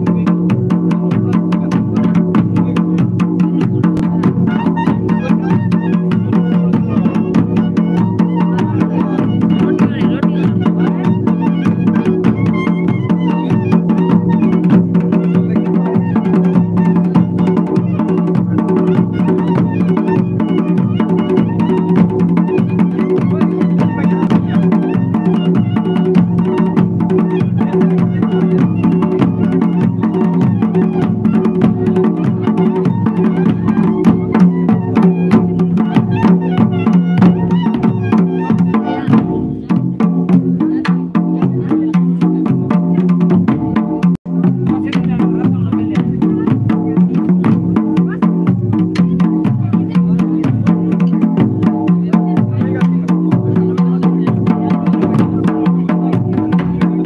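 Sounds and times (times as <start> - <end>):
drum ensemble beating: 0.0 - 57.0.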